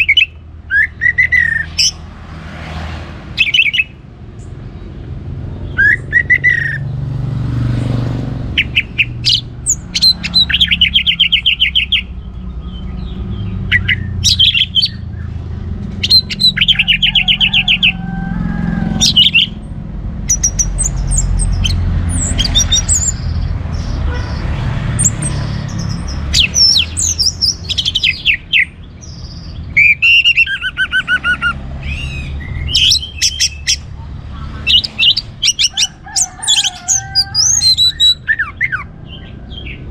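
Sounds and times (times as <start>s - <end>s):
thrush singing trills and whistles: 0.0s - 2.1s, 3.3s - 4.5s, 5.5s - 7.0s, 8.2s - 19.7s, 20.3s - 39.9s.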